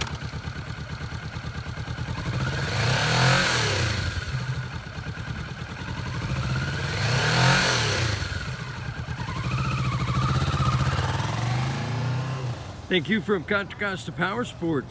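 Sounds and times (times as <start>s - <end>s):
motorcycle engine idling and revving: 0.0s - 12.9s.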